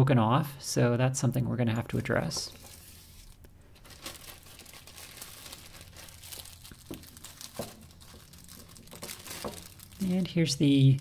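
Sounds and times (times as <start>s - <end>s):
plastic bag crinkling: 2.0s - 11.0s.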